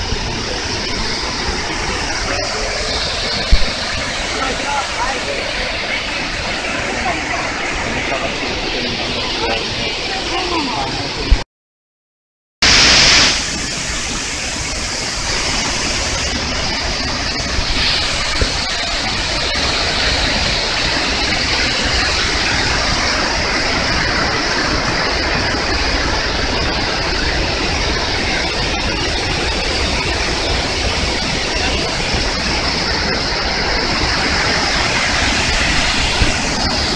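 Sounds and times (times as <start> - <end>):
waterfall rushing loudly: 0.0 - 11.4, 12.6 - 36.9.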